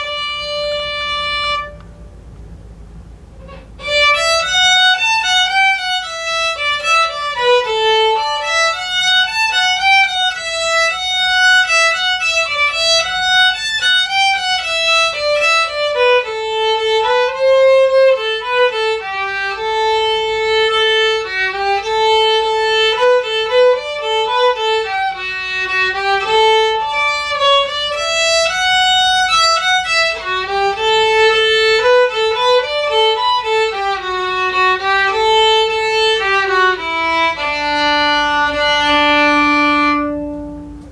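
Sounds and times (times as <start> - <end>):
fiddle playing folk dance tune: 0.0 - 1.8, 3.5 - 40.9.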